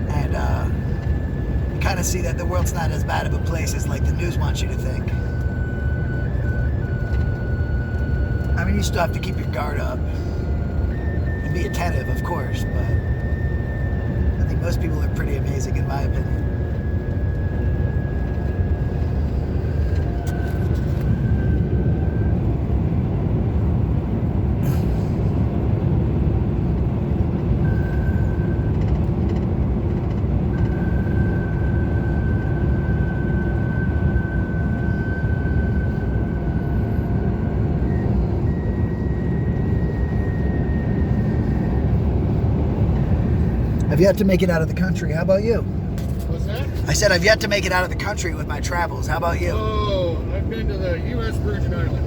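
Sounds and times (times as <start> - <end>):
road and engine rumble: 0.0 - 52.0.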